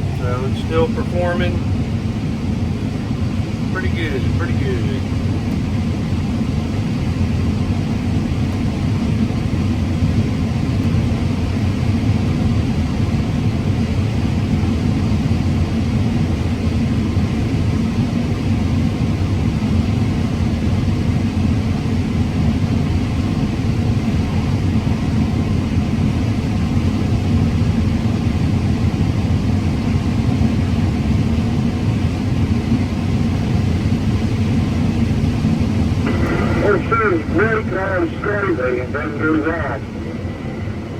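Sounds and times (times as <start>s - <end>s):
combine harvester drone: 0.0s - 40.9s.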